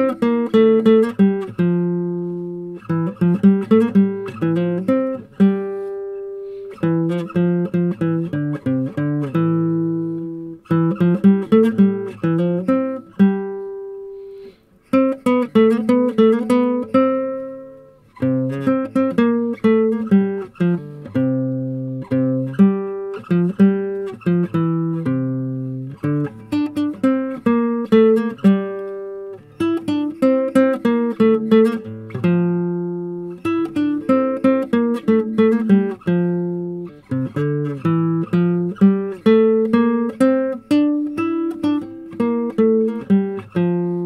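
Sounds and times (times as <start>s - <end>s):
plucked guitar melody: 0.0s - 44.0s.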